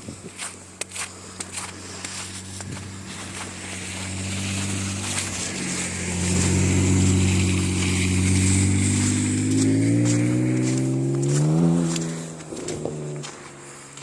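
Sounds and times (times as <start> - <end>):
car engine revving: 0.7 - 14.0.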